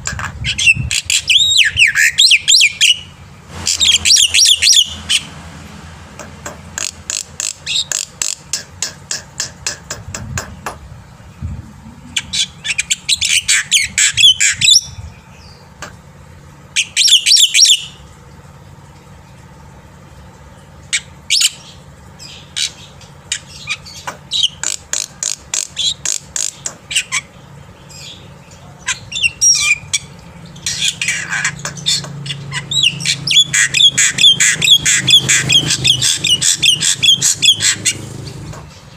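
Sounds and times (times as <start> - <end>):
bird harsh chattering song: 0.0 - 5.3, 6.8 - 10.7, 11.3 - 15.9, 16.6 - 18.0, 20.8 - 38.9.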